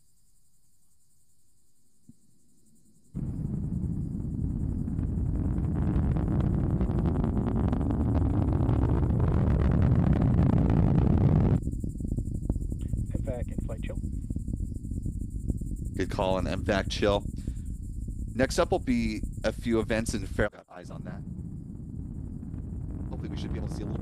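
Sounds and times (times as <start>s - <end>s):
rocket engines rumbling and crackling: 3.2s - 24.0s.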